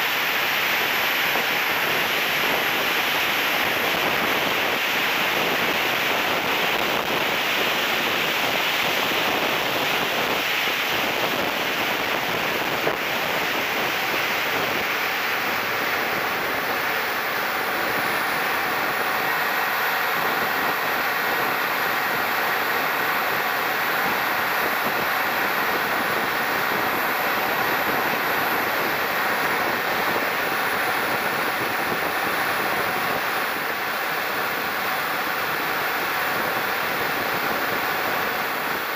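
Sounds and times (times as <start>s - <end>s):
air rushing over camera: 0.0s - 38.9s
jet turbine whine: 0.0s - 38.9s.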